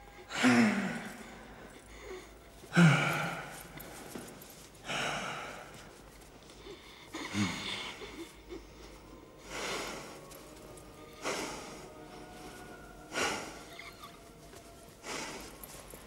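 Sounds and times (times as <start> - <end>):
person breathing heavily: 0.0 - 16.0.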